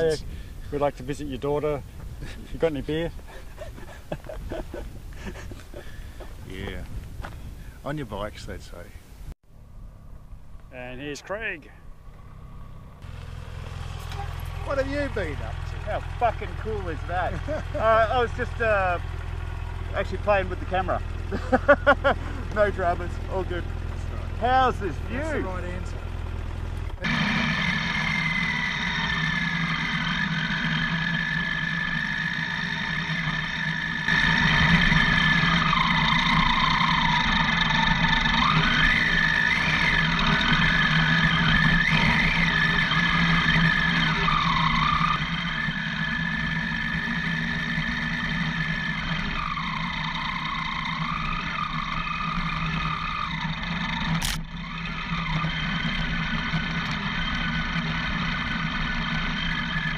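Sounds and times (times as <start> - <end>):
motorcycle engine revving: 0.0 - 8.2, 9.5 - 59.9.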